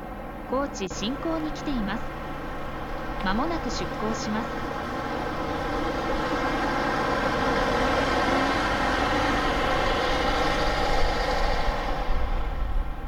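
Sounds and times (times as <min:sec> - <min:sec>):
machinery drone with hum: 0:00.0 - 0:13.0.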